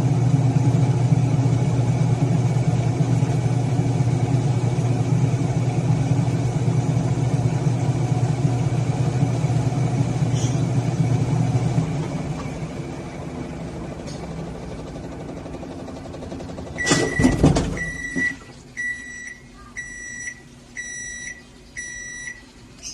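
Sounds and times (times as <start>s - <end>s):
washing machine motor hum: 0.0s - 22.9s.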